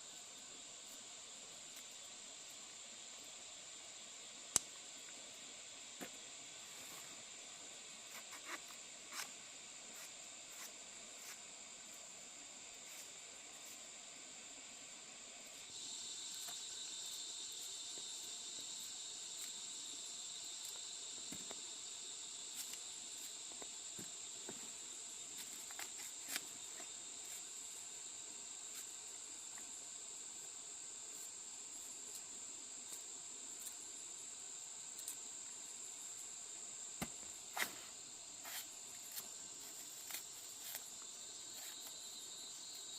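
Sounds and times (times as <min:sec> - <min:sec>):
high-pitched insect chorus: 0:00.0 - 0:42.9
lower insect buzz: 0:00.0 - 0:42.9.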